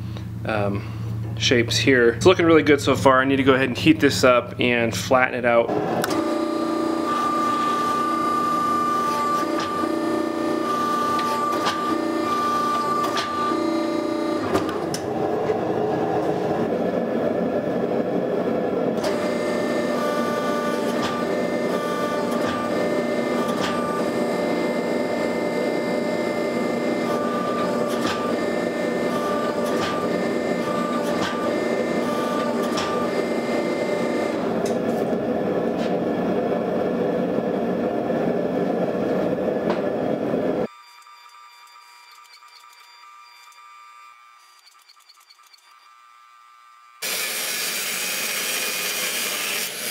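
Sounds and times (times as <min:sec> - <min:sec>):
machinery drone with whine: 0:00.0 - 0:47.0.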